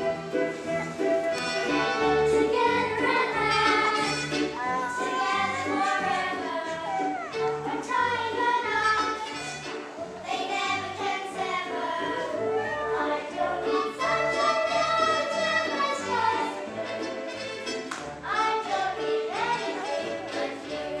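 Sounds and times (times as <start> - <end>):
children singing together: 0.0 - 21.0
instrumental accompaniment with bass: 0.0 - 21.0.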